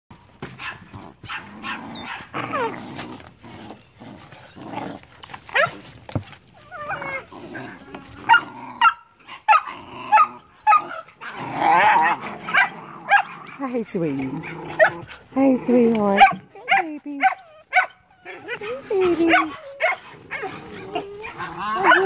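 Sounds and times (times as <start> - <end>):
puppies whining and yipping: 0.6 - 13.2, 16.0 - 22.0.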